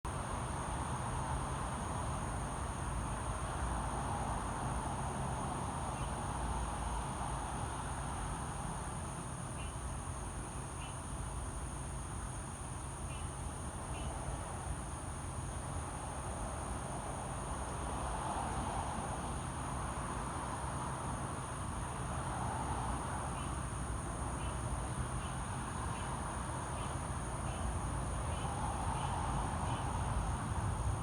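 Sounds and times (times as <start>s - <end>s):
insects droning: 0.1s - 31.0s.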